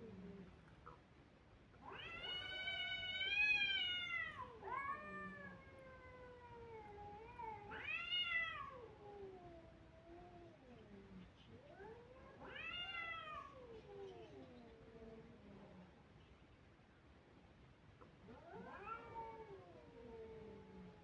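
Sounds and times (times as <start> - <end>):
cats yowling: 1.8 - 15.9, 18.3 - 21.0.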